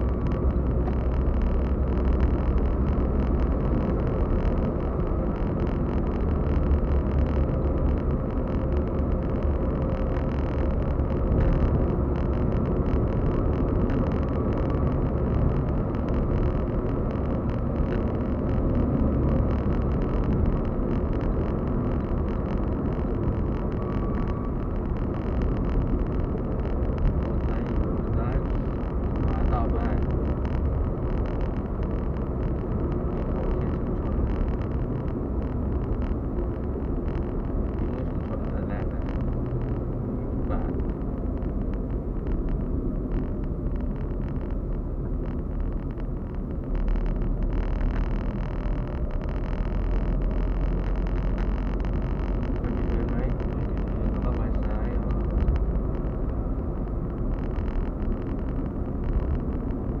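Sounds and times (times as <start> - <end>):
road and tyre noise: 0.0 - 60.0
small car engine hum: 0.0 - 60.0.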